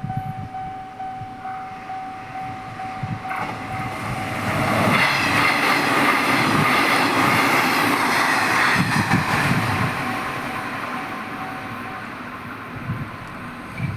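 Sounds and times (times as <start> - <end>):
train passing: 0.0 - 13.9.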